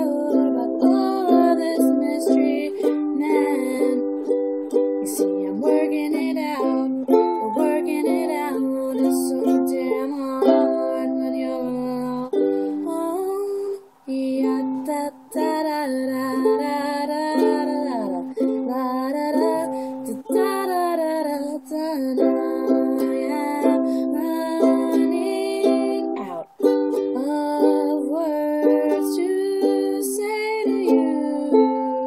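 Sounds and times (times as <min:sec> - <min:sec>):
ukulele strumming: 0:00.0 - 0:32.0
woman singing: 0:00.0 - 0:32.0.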